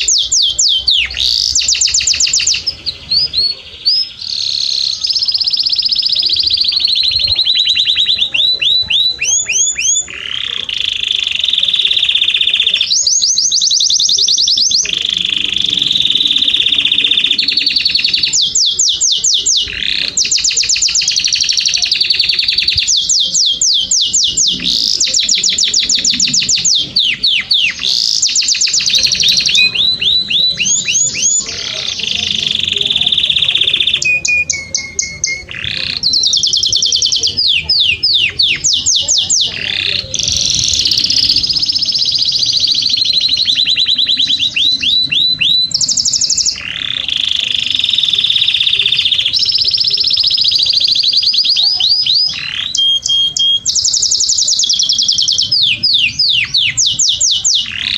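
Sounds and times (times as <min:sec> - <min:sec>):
canary singing trills: 0:00.0 - 0:57.9.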